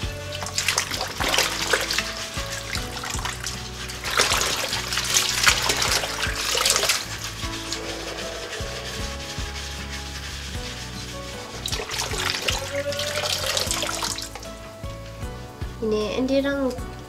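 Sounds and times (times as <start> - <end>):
water trickling and splashing: 0.0 - 14.8
background music: 0.0 - 17.0.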